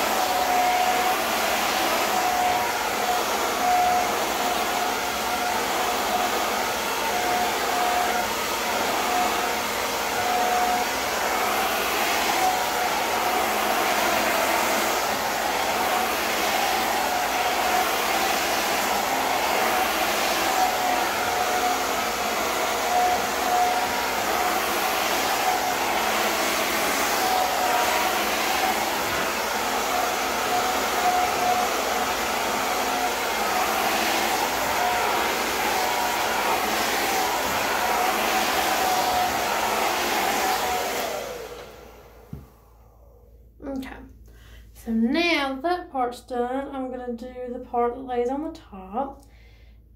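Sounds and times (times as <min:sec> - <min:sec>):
hair dryer blowing: 0:00.0 - 0:43.8.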